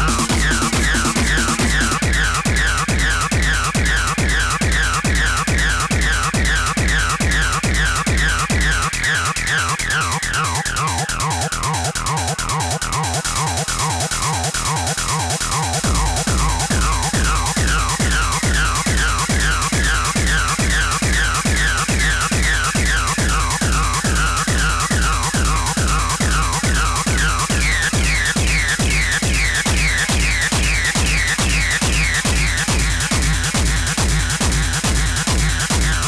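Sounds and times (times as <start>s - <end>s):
heavy kick drum: 0.0s - 9.1s, 15.1s - 36.0s.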